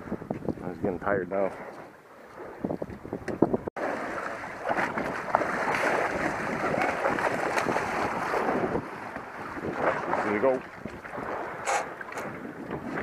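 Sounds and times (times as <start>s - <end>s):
wind on microphone: 0.0s - 13.0s
water splashing and churning: 1.2s - 13.0s.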